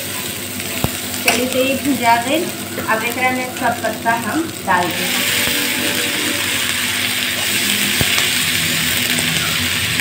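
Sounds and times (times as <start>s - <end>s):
leaves sizzling in hot oil: 0.0s - 10.0s.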